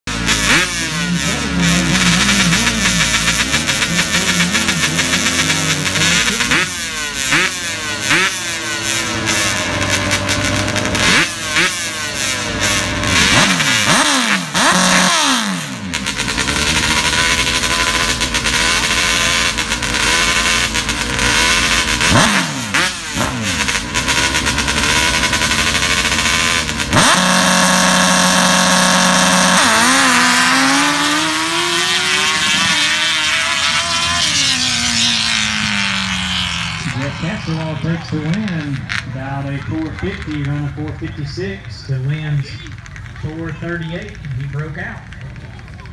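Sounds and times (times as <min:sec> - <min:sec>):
atv engines revving: 0:00.0 - 0:45.9.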